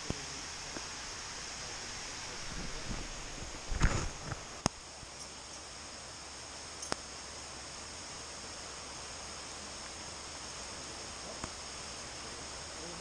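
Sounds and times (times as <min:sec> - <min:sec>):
high-pitched hiss: 0:00.0 - 0:13.0.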